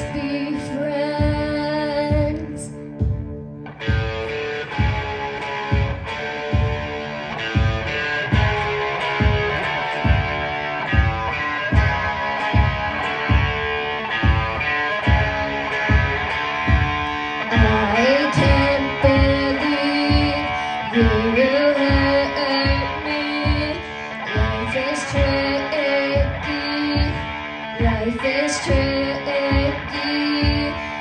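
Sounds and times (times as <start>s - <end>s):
girl singing: 0.0s - 3.5s, 8.3s - 31.0s
electric guitar: 0.0s - 31.0s
drum kit beat: 1.1s - 31.0s.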